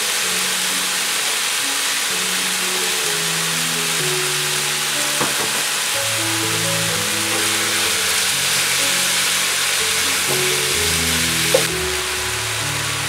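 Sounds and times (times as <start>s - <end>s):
background music: 0.0s - 13.0s
chicken sizzling in a pan: 0.0s - 13.0s.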